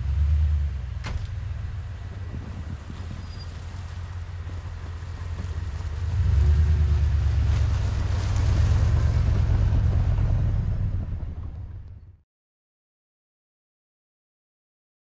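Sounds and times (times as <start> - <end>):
truck engine running: 0.0 - 12.2.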